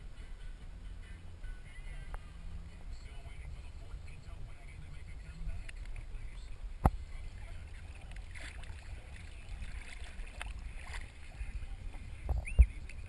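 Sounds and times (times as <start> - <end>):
muffled boat rumble: 0.0 - 13.0.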